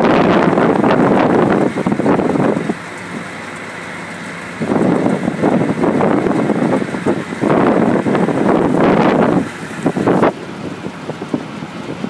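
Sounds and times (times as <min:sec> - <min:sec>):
wind buffeting microphone: 0:00.0 - 0:03.3, 0:04.4 - 0:12.0.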